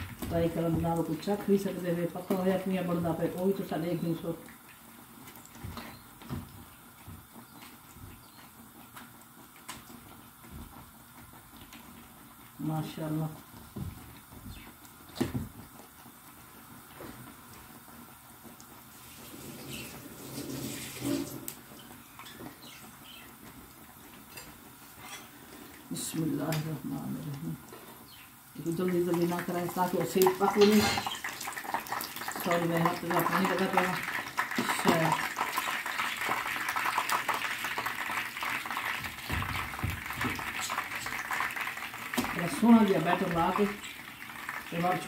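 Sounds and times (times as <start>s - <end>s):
food frying in hot oil: 0.0s - 45.0s
small crackles of oil: 4.3s - 12.6s, 13.3s - 45.0s.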